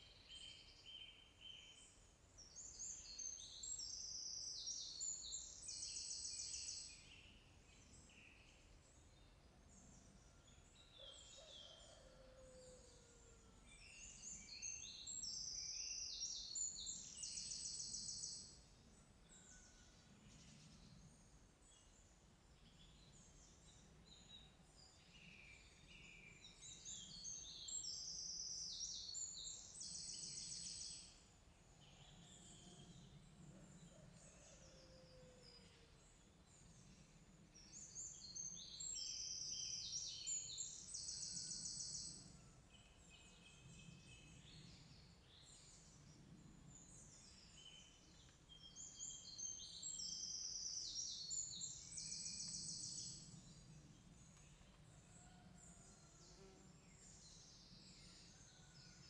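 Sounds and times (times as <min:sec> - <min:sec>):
songbird singing with trill: 0:00.0 - 0:18.6, 0:19.3 - 0:31.2, 0:31.8 - 0:55.4.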